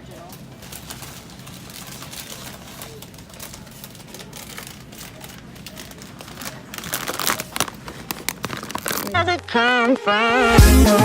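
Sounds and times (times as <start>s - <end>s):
rustling: 0.2s - 9.4s.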